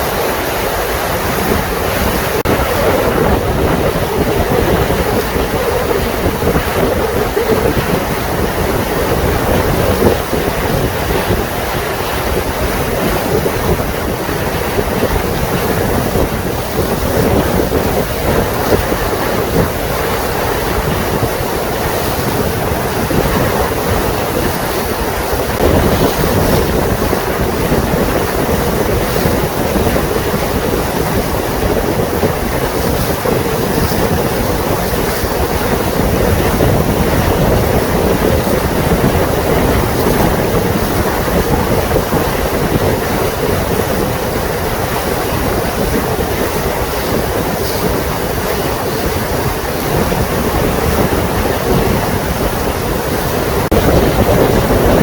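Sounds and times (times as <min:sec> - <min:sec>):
water noise: 0:00.0 - 0:55.0
wind on microphone: 0:00.0 - 0:55.0.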